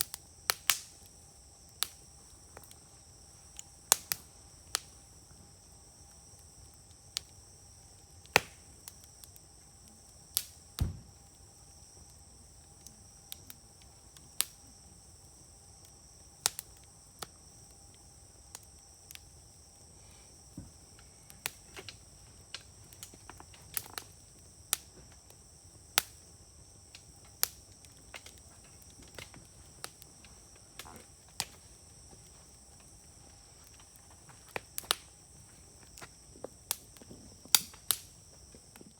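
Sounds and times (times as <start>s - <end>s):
insects trilling: 0.0s - 38.9s
wood fire crackling and popping: 0.0s - 38.9s.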